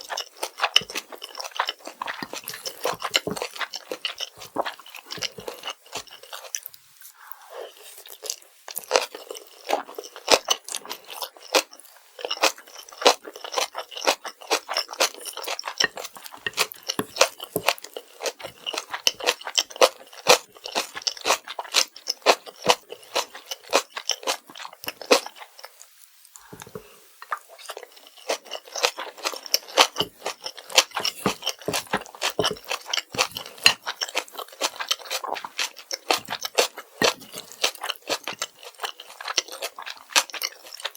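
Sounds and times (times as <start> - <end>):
close chewing with wet crunches: 0.0 - 40.9.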